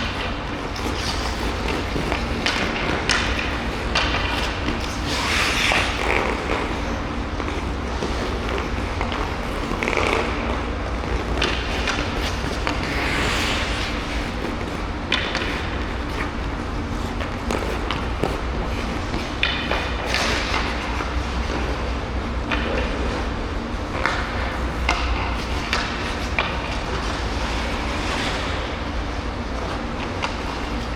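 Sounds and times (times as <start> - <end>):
stick clacking on puck: 0.0 - 21.6, 22.4 - 28.6, 29.7 - 30.9
low rink hum: 0.0 - 30.9
skate blades scraping ice: 0.0 - 30.9.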